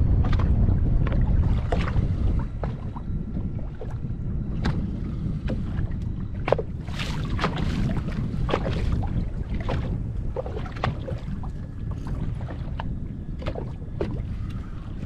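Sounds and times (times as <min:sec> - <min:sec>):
water lapping against hull: 0:00.0 - 0:15.0
wind buffeting microphone: 0:00.0 - 0:15.0.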